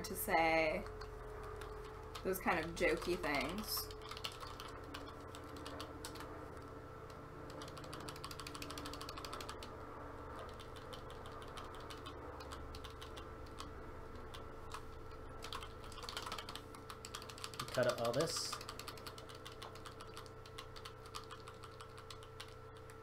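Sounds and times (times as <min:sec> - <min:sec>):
faint electrical hum: 0:00.0 - 0:23.0
keyboard typing clicks: 0:00.9 - 0:09.7, 0:10.4 - 0:23.0.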